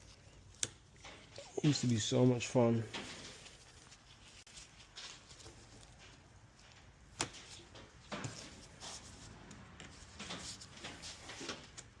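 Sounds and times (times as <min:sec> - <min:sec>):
scraping and rustling: 0:01.0 - 0:12.0.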